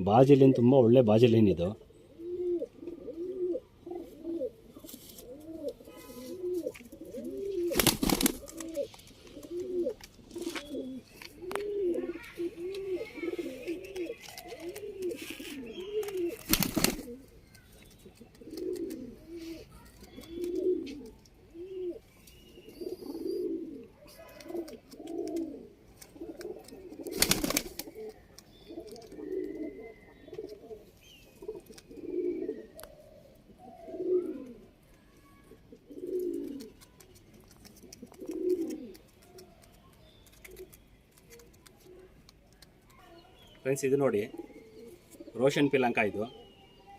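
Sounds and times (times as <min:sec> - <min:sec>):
pigeons cooing: 0:00.0 - 0:39.7, 0:40.3 - 0:42.2, 0:44.0 - 0:46.9.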